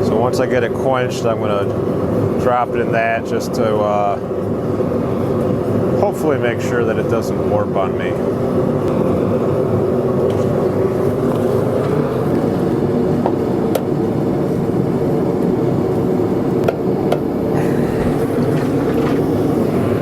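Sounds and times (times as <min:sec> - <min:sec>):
forge running: 0:00.0 - 0:20.0.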